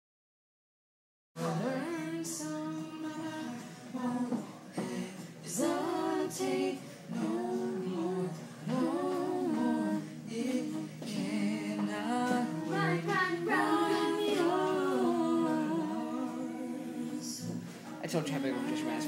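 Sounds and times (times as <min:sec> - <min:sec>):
voices singing a cappella: 0:01.4 - 0:19.0.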